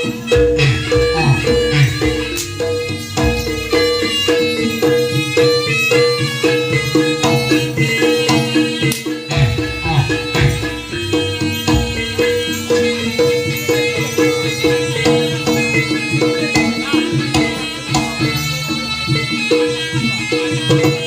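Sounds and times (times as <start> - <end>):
hand drums: 0.0 - 21.0
struck melodic notes: 0.0 - 21.0.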